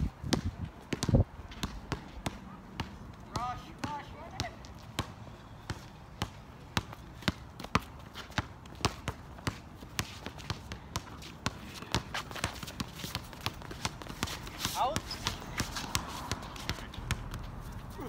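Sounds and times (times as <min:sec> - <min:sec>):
basketball bouncing on hard court: 0:00.3 - 0:17.5.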